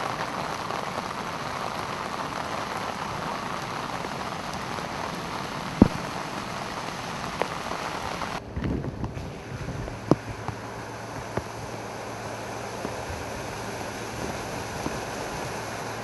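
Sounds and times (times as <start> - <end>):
car approaching through water: 0.0 - 16.0
rain on flooded pavement: 0.0 - 16.0
running floodwater: 0.0 - 16.0.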